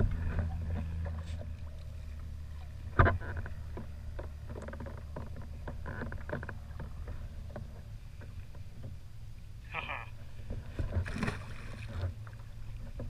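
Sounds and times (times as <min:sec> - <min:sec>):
steady low rumble: 0:00.0 - 0:13.0
waves lapping against kayak hull: 0:00.0 - 0:13.0.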